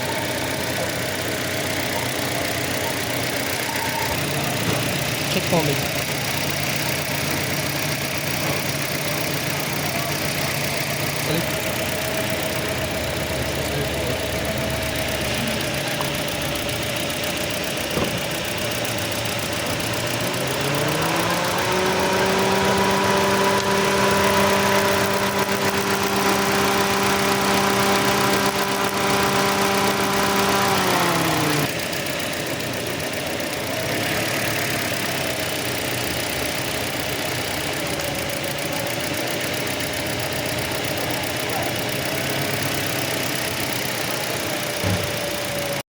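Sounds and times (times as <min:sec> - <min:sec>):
car engine idling and revving: 0:00.0 - 0:45.8.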